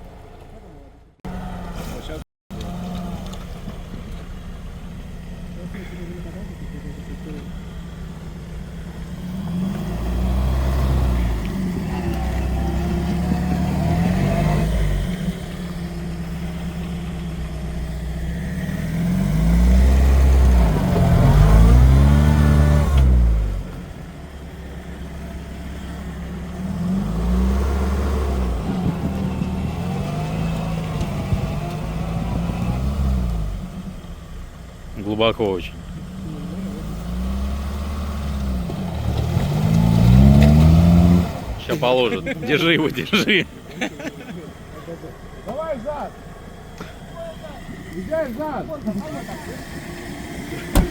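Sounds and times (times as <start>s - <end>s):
off-road vehicle engine revving: 0.0s - 50.9s.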